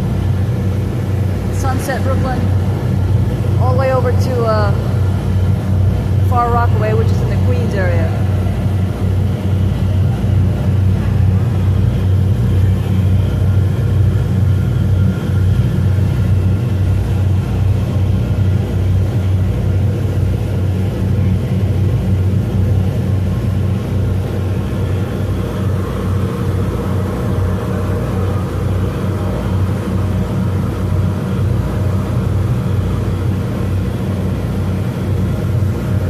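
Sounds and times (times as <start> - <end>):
boat under way noise: 0.0 - 36.0
ferry engines droning: 0.0 - 36.0.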